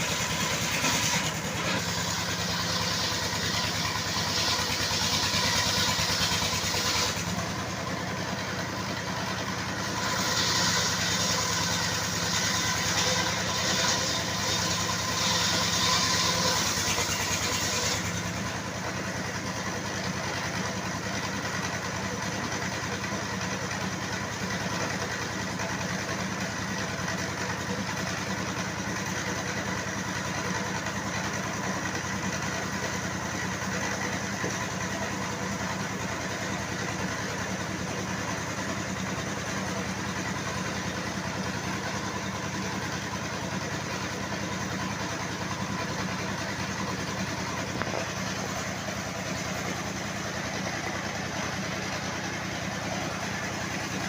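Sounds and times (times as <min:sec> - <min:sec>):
sawmill machinery droning: 0:00.0 - 0:54.0.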